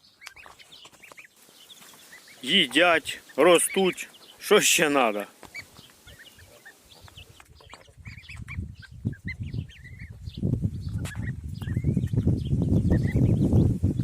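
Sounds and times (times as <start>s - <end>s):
goslings peeping: 0.0s - 14.0s.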